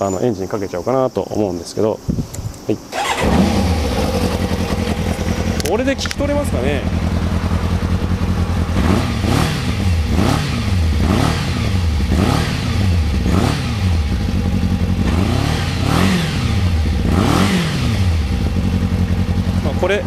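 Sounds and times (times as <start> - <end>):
motorcycle engine revving: 2.9 - 20.0.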